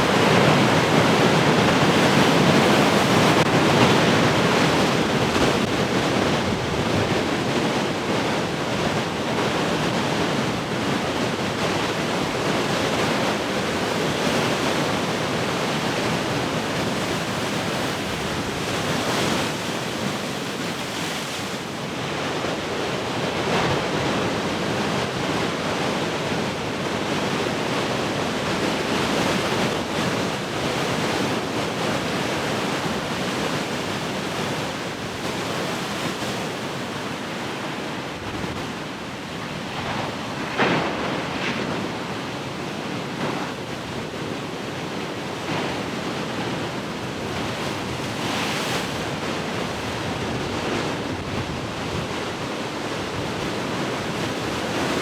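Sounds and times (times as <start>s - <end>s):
ocean waves breaking: 0.0s - 24.0s, 28.4s - 55.0s.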